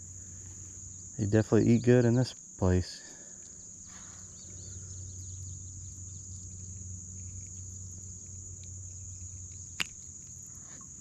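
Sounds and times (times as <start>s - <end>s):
insects singing: 0.0s - 11.0s
low steady hum: 0.0s - 11.0s.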